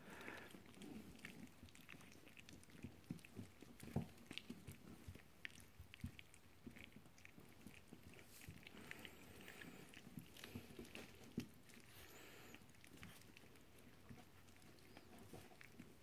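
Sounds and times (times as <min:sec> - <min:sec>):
puppies licking wet smacking: 0:00.0 - 0:16.0.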